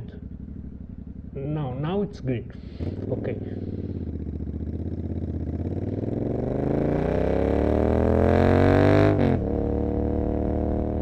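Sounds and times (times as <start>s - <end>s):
motorcycle exhaust accelerating: 0.0s - 11.0s.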